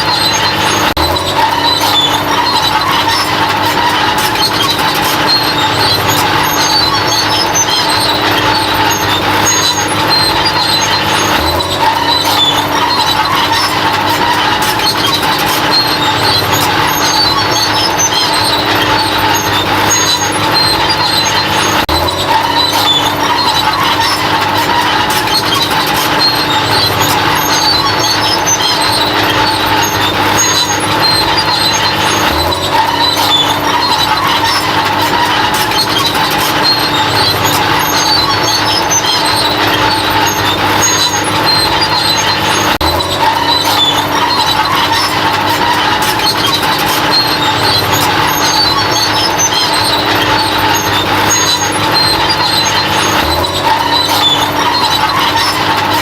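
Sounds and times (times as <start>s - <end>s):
bulldozer running: 0.0s - 56.0s.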